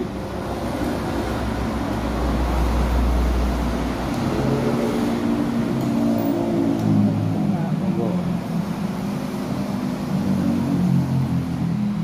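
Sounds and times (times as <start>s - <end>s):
motor vehicle passing: 0.5s - 12.0s.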